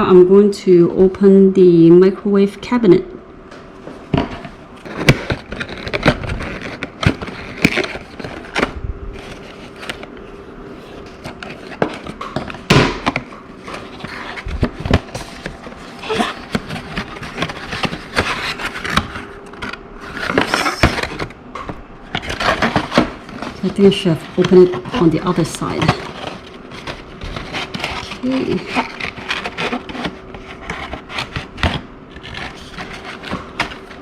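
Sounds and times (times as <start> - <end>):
cardboard rustling: 4.1 - 34.0.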